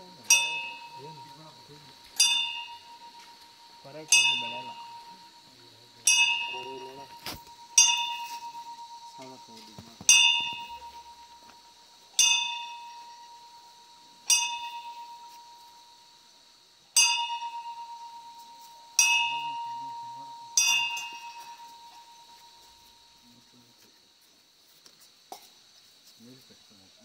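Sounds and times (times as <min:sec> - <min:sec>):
metal temple bell ringing: 0:00.0 - 0:16.2, 0:16.9 - 0:23.5.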